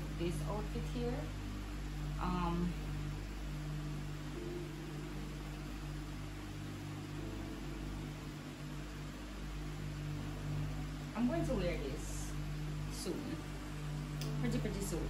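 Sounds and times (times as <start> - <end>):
steady low hum with hiss: 0.0 - 15.0.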